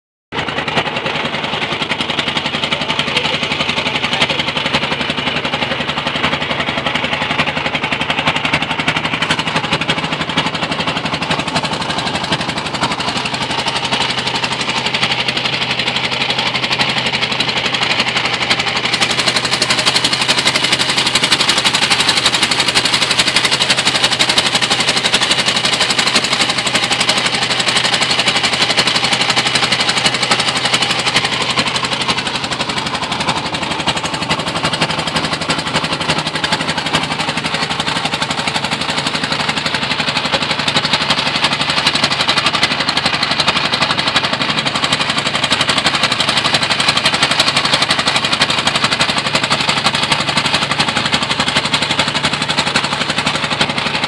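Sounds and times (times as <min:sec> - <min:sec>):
boat engine knocking: 0:00.3 - 0:54.0.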